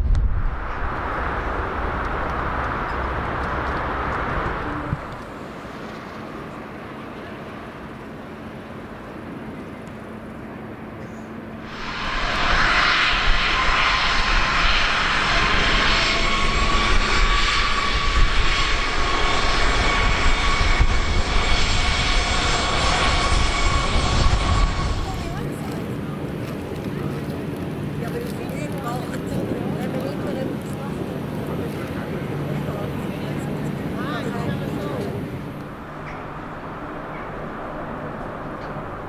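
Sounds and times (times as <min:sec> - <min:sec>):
jet engines rumbling and whining: 0:00.0 - 0:39.0.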